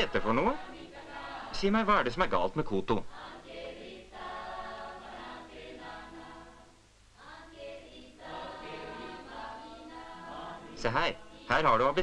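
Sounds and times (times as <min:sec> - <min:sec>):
choir singing: 0:00.0 - 0:02.3, 0:03.0 - 0:12.0.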